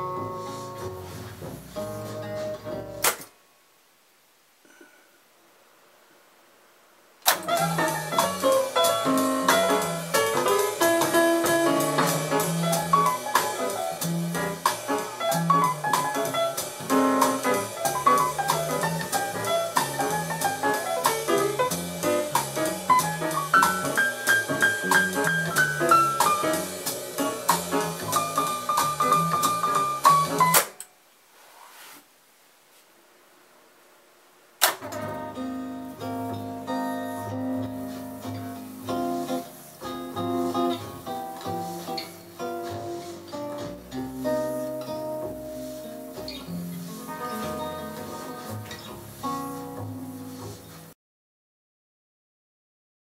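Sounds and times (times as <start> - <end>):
jazz music from tape: 0.0 - 3.1, 7.3 - 30.8, 34.9 - 50.9.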